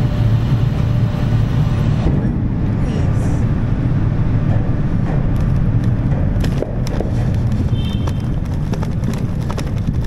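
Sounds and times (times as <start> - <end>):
vehicle low rumble: 0.0 - 10.0.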